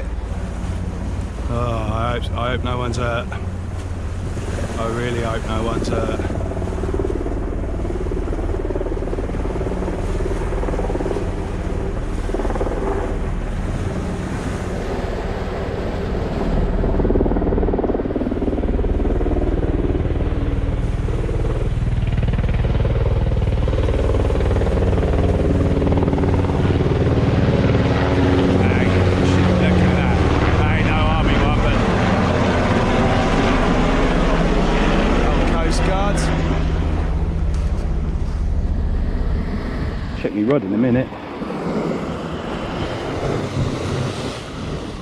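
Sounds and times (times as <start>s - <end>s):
helicopter flying low: 0.0s - 45.0s.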